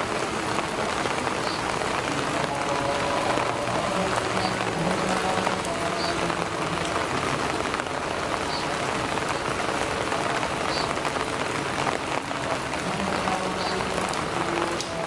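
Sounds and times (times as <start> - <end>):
rain falling on leaves: 0.0 - 15.0.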